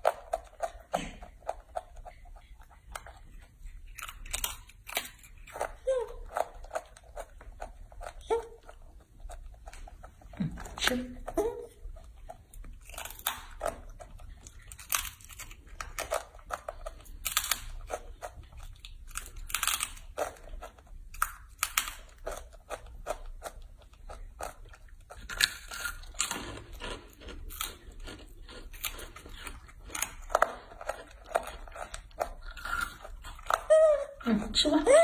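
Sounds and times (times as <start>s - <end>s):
monkey crunching chips: 0.0s - 35.0s.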